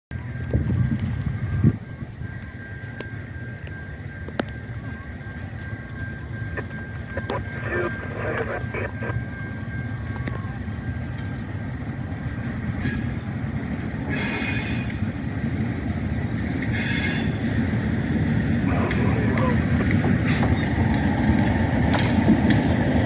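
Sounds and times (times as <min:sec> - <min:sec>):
train rumble: 0:00.1 - 0:23.0.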